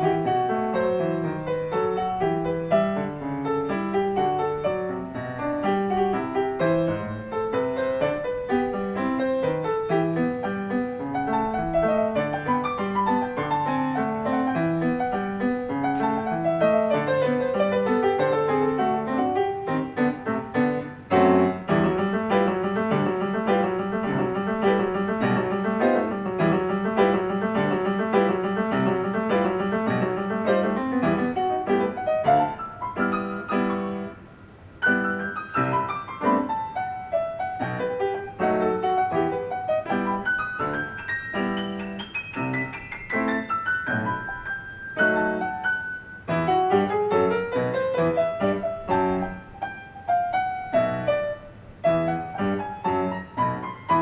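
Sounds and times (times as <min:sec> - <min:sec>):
piano playing: 0:00.0 - 0:54.0.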